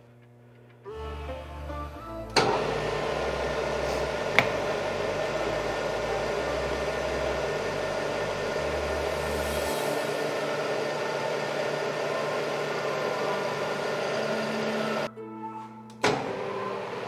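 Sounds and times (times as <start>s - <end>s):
lathe spindle running: 0.7s - 15.1s, 16.0s - 17.0s.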